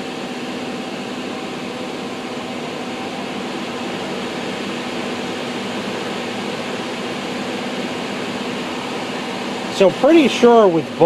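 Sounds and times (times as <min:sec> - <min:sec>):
fume extractor fans rushing air: 0:00.0 - 0:11.0
steady motor hum: 0:00.0 - 0:11.0.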